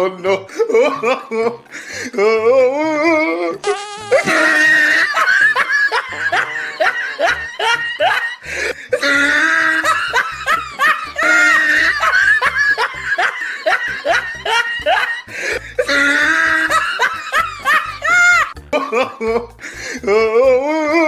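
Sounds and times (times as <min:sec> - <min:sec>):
people laughing: 0:00.0 - 0:20.2
music: 0:00.0 - 0:21.0.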